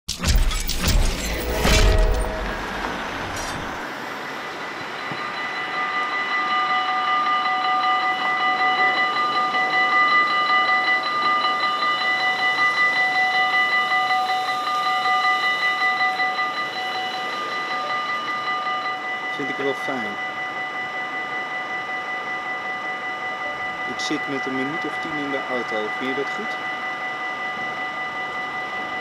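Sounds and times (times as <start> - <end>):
level-crossing warning bell ringing: 0.1 - 29.0.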